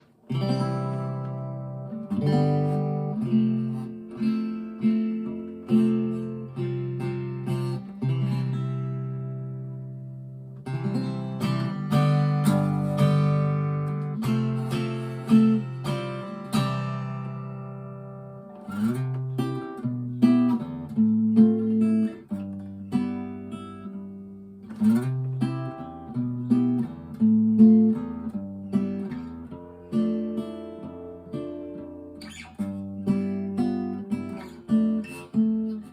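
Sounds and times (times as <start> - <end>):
acoustic guitar chords: 0.0 - 35.9.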